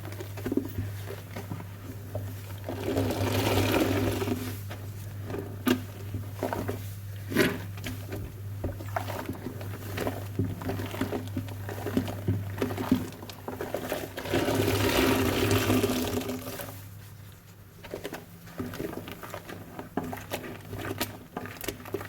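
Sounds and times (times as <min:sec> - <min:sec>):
wet sponge squelching: 0:00.0 - 0:22.0.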